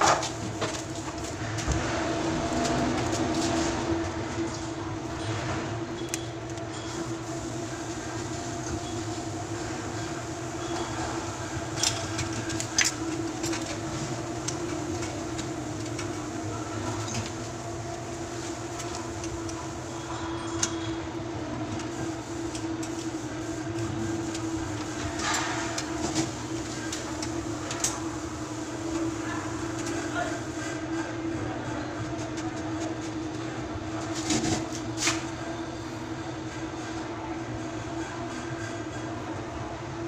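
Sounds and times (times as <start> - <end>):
steady machine hum: 0.0 - 40.0.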